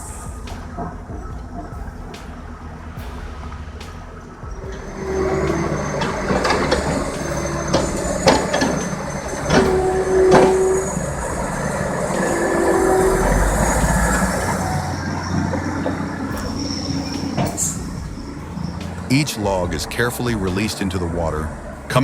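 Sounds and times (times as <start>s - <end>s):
short squeals: 0.0s - 19.6s
heavy machinery rumbling: 0.0s - 22.0s
metallic knocks and clanks: 0.0s - 22.0s.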